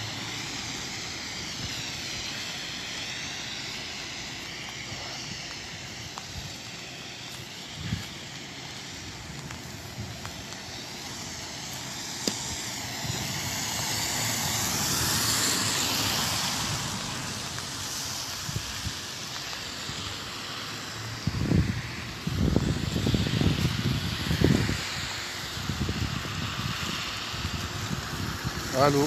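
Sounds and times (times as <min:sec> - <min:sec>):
car tyres hissing on wet road: 0:00.0 - 0:29.0
rain on wet pavement: 0:00.0 - 0:29.0.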